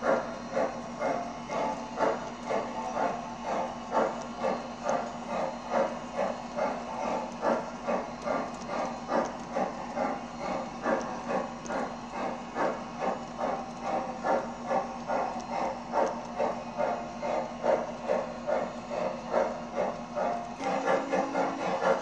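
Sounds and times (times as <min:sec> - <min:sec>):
model steam locomotive chuffing: 0:00.0 - 0:22.0.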